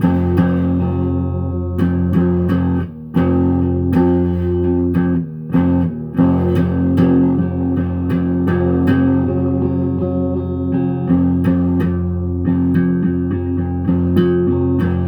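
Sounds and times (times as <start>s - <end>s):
low bass notes: 0.0s - 15.0s
plucked guitar notes: 0.0s - 15.0s.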